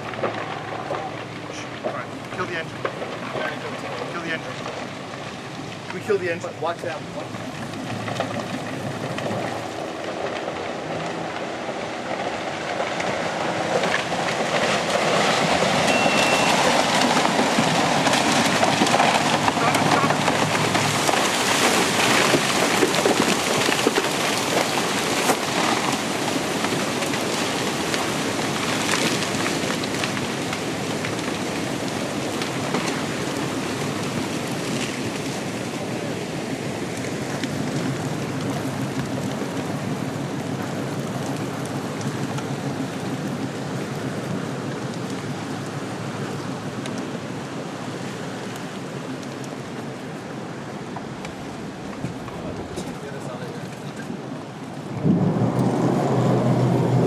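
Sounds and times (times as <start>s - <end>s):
landslide rushing and crackling: 0.0s - 57.0s.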